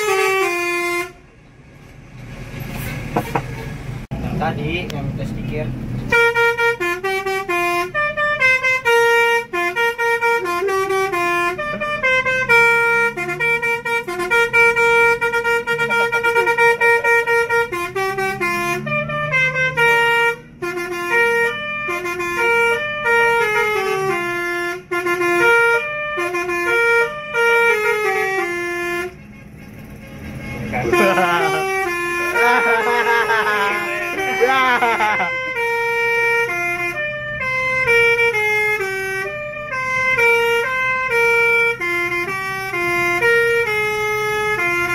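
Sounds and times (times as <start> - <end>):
bus musical air horn: 0.0 - 1.4, 2.6 - 4.0, 6.0 - 44.9.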